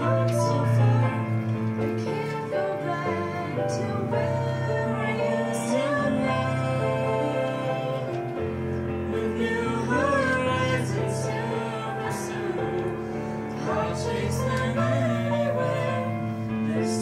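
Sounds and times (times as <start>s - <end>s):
boy and girl singing duet: 0.0s - 8.4s, 9.1s - 17.0s
instrumental accompaniment: 0.0s - 17.0s.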